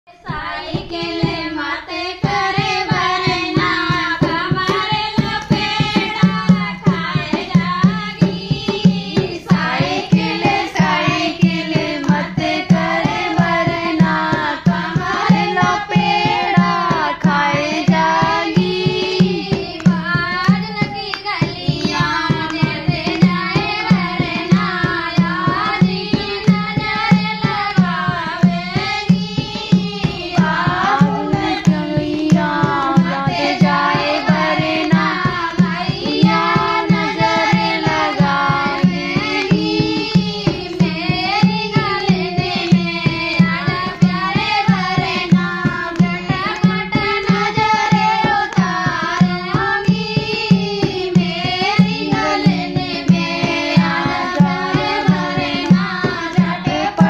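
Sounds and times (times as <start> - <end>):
women singing folk song: 0.1 - 57.0
hand drum fast beat: 0.2 - 57.0.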